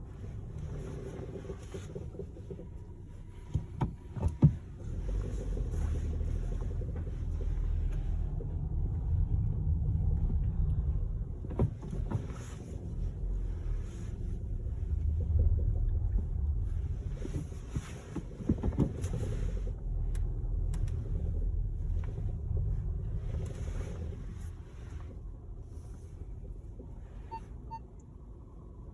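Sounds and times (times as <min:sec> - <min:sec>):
car engine rumble: 0:00.0 - 0:28.9.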